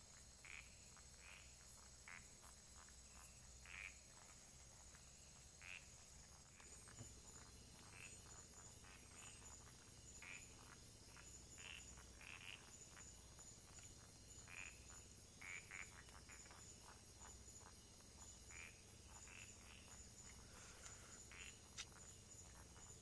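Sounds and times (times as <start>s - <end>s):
frogs croaking: 0.0s - 23.0s
insect trill: 0.0s - 23.0s.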